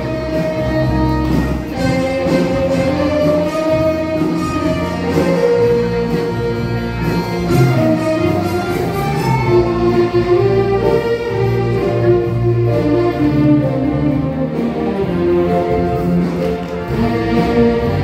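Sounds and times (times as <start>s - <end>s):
instrumental ensemble music: 0.0s - 18.0s.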